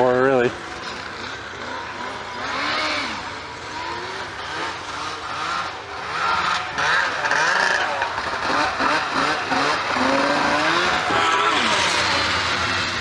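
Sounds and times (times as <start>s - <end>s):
snowmobile engines revving: 0.0s - 13.0s.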